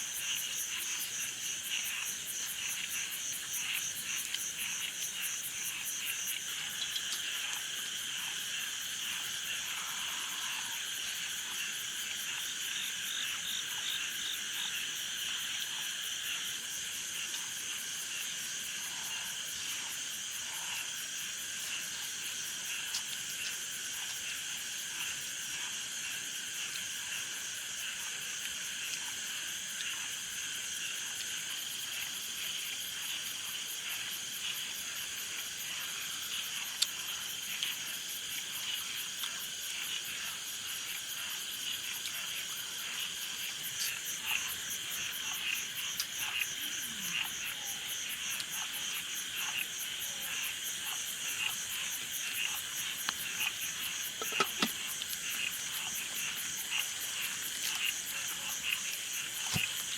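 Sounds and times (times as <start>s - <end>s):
frogs and insects trilling: 0.0s - 59.9s.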